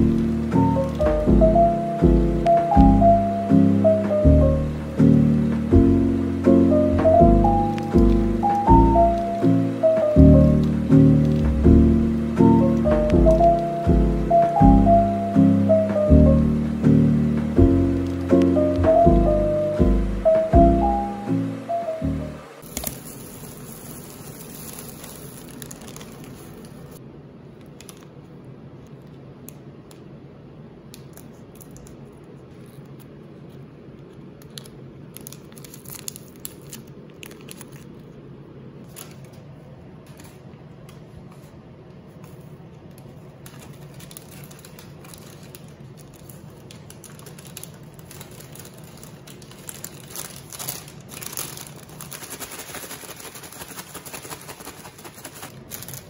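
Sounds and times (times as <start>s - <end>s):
plastic and paper bags crinkling: 0.0s - 3.2s, 7.0s - 15.1s, 15.7s - 20.4s, 22.6s - 27.0s, 31.2s - 56.0s.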